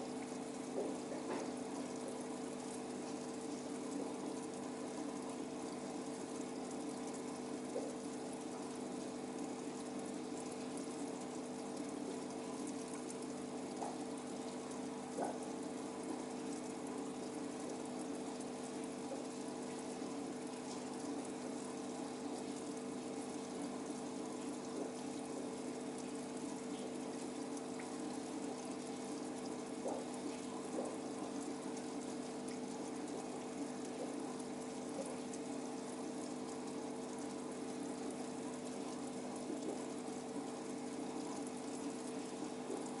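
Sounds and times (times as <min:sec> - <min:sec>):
aquarium pump humming: 0:00.0 - 0:43.0
water bubbling and churning: 0:00.0 - 0:43.0
faint ticks: 0:00.2 - 0:43.0.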